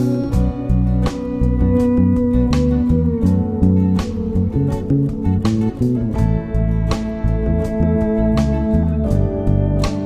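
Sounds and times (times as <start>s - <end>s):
guitar-led instrumental music: 0.0s - 10.0s.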